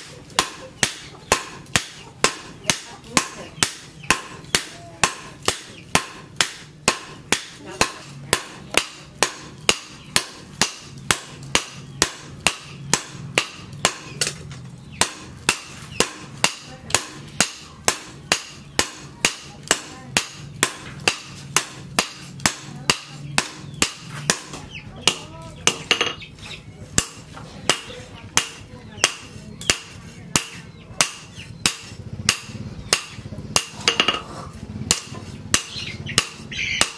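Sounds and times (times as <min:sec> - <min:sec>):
hammer striking hot metal: 0:00.0 - 0:14.4, 0:15.0 - 0:26.2, 0:27.0 - 0:34.2, 0:34.9 - 0:36.9.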